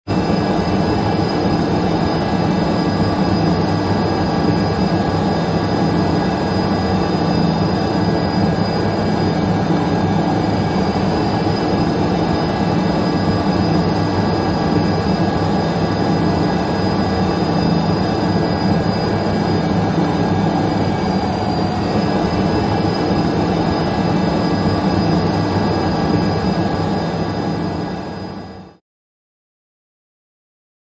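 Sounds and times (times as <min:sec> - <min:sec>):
jet airliner drone: 0:00.1 - 0:28.8.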